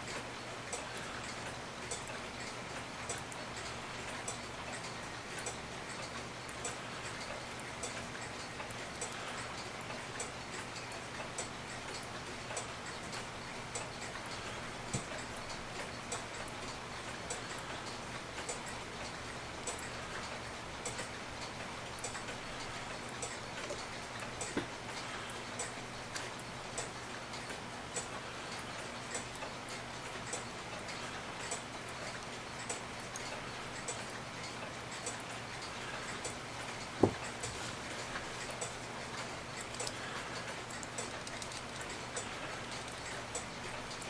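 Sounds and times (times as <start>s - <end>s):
mechanical clock ticking: 0.0s - 44.0s.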